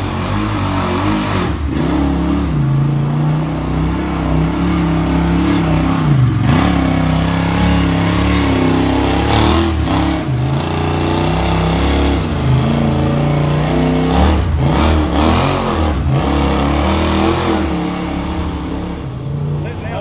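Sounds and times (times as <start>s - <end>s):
utv engines revving: 0.0s - 20.0s.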